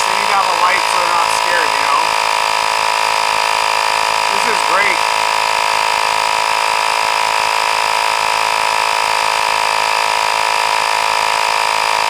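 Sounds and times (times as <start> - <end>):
tire inflator compressor running: 0.0 - 12.0.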